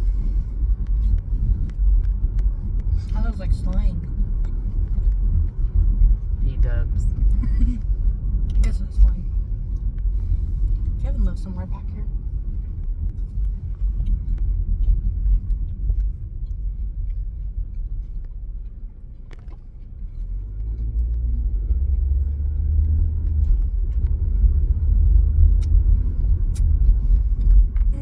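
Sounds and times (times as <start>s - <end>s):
car cabin road and engine rumble: 0.0s - 28.0s.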